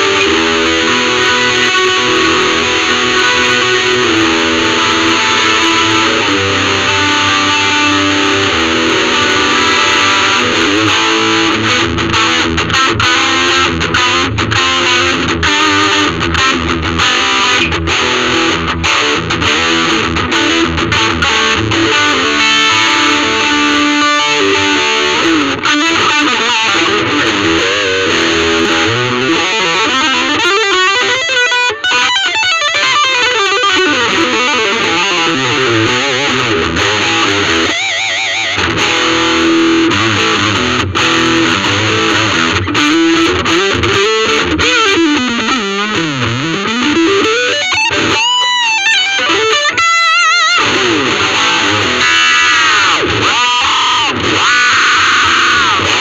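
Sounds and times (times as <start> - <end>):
electric guitar solo: 0.0 - 56.0.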